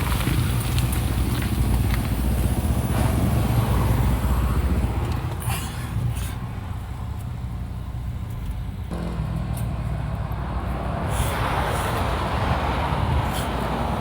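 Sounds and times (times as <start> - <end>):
gravelly road noise: 0.0 - 14.0
vehicle engine and tyre rumble: 0.0 - 14.0.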